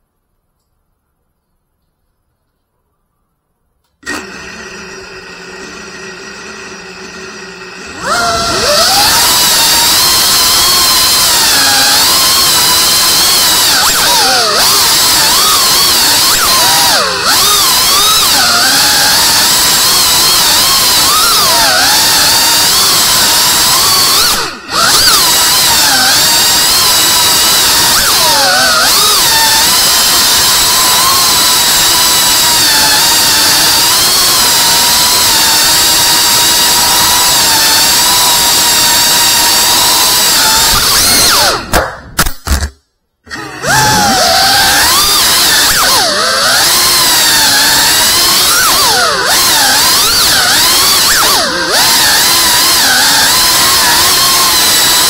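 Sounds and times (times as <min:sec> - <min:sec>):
drone motors and propellers whining: 0:05.6 - 0:42.1, 0:43.3 - 0:55.0.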